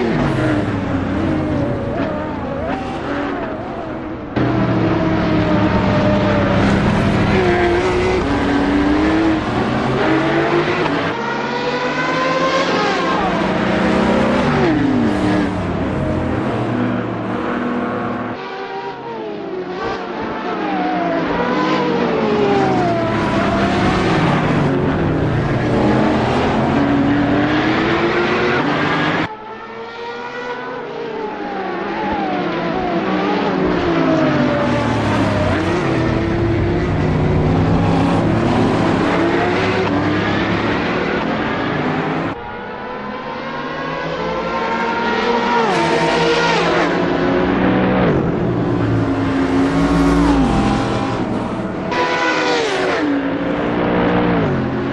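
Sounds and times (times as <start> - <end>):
racing car engine revving: 0.0 - 30.7, 31.9 - 54.9.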